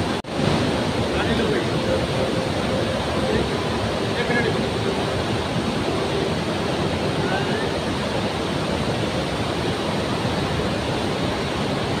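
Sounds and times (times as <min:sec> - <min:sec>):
steady rushing water noise: 0:00.0 - 0:12.0.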